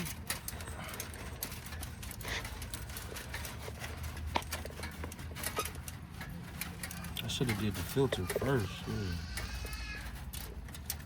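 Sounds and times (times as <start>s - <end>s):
tools clicking and knocking: 0.0s - 11.0s.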